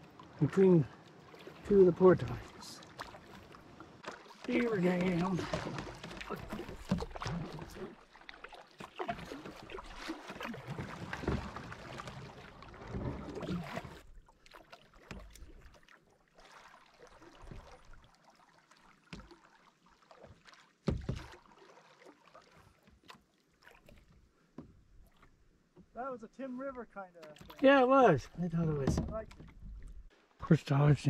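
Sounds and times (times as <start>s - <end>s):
paddle strokes and splashing: 0.0s - 30.4s.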